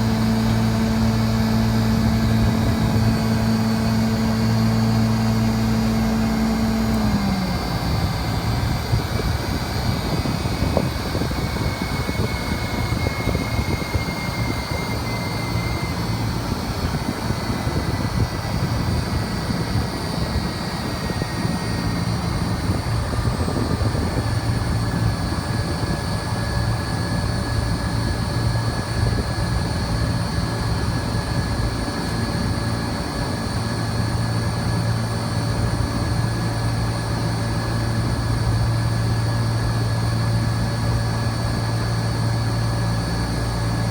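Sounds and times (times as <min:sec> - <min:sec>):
air conditioning unit whirring: 0:00.0 - 0:43.9.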